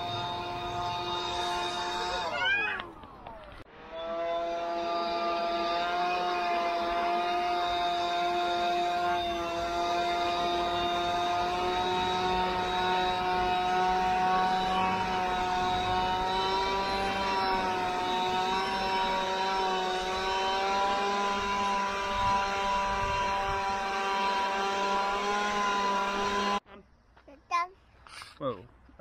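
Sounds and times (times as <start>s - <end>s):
leaf blower running: 0.0s - 2.8s, 3.7s - 26.6s.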